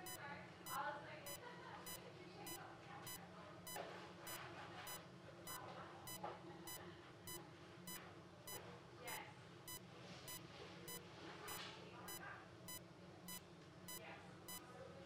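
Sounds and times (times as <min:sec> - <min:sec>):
patient monitor beeping: 0:00.0 - 0:14.6.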